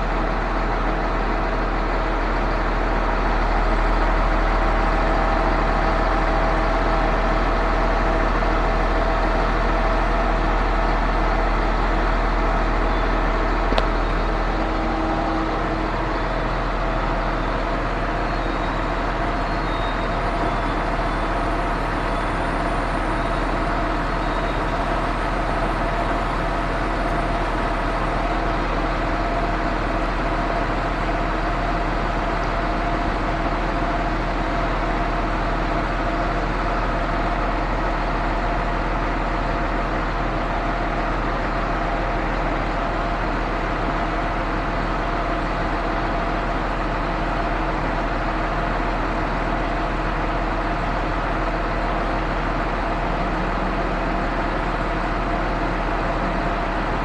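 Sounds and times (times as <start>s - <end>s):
diesel engine whine and rumble: 0.0s - 57.0s.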